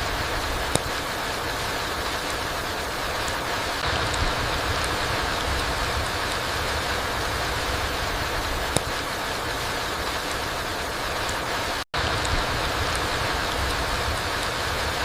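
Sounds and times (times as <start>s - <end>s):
raindrop ticks: 0.0s - 15.0s
steady rain falling: 0.0s - 15.0s.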